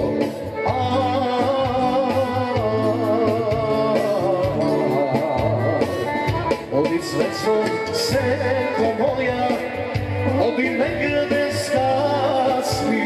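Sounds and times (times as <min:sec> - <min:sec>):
folk dance band music: 0:00.0 - 0:13.0.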